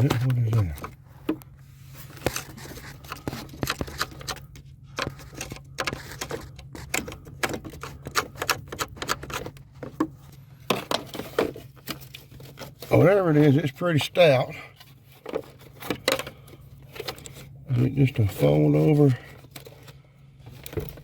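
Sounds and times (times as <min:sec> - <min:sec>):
hands handling wiring and plastic: 0:00.0 - 0:21.0
steady low hum: 0:00.0 - 0:21.0.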